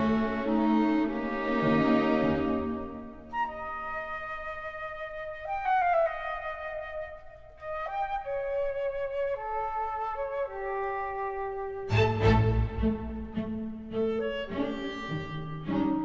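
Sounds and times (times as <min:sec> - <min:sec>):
woodwind playing slow melody: 0:00.0 - 0:16.0.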